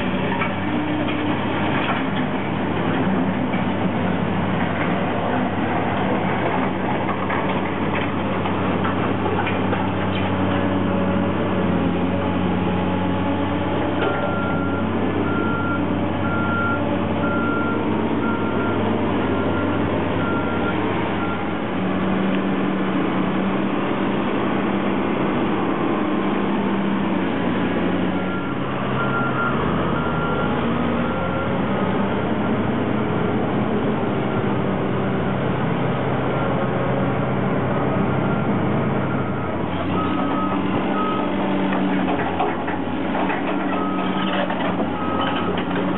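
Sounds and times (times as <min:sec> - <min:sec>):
construction machinery engine running: 0:00.0 - 0:45.9.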